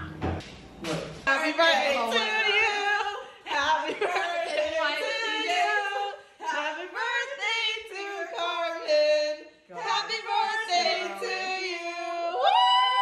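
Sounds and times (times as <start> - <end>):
woman singing unaccompanied: 1.3 - 12.5.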